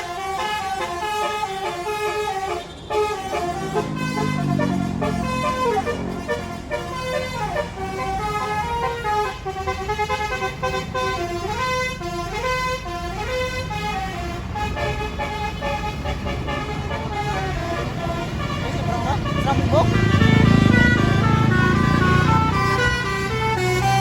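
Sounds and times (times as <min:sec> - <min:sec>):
bus engine running: 0:00.0 - 0:24.0
musical air horn playing a tune: 0:00.0 - 0:24.0.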